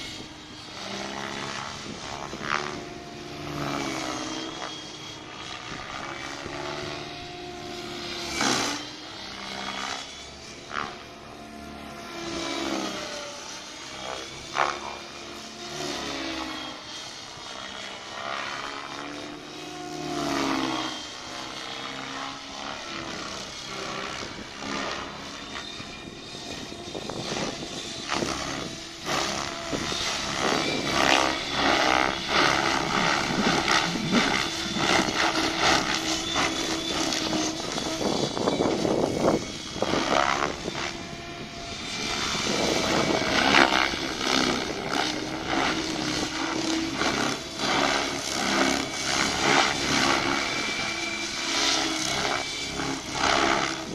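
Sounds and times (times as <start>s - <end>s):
model helicopter rotor whine: 0.0s - 53.9s.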